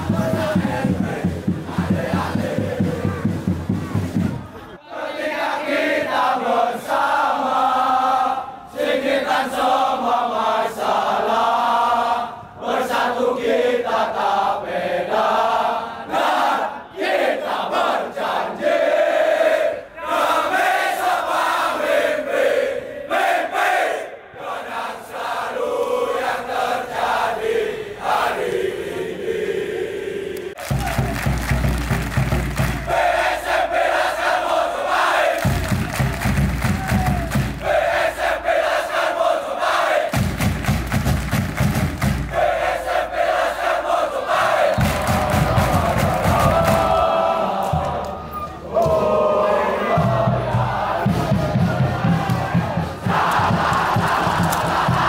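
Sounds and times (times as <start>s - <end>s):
crowd chanting: 0.0s - 55.0s.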